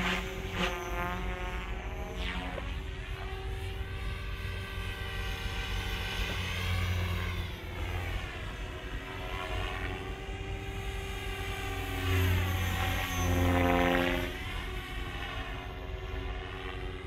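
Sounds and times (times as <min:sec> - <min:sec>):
low rotor hum: 0:00.0 - 0:17.0
rc helicopter motor whine: 0:00.0 - 0:17.0.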